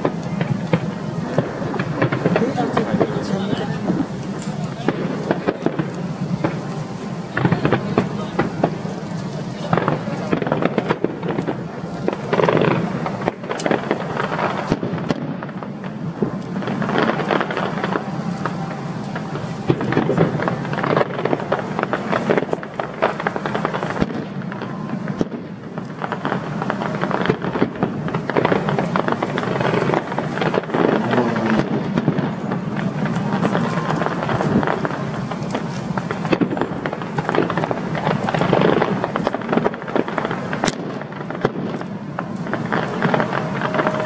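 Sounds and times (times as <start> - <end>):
fireworks banging and crackling: 0.0 - 44.0.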